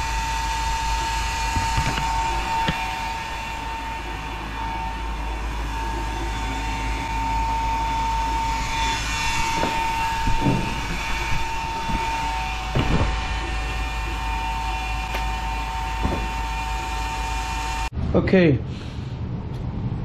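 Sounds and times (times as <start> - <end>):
machine running with high whine: 0.0 - 18.0.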